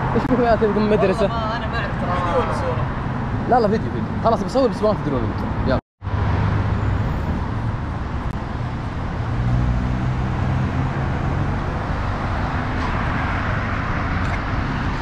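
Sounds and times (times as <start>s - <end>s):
cars driving past: 0.0s - 15.0s
vehicle engine hum: 0.0s - 15.0s.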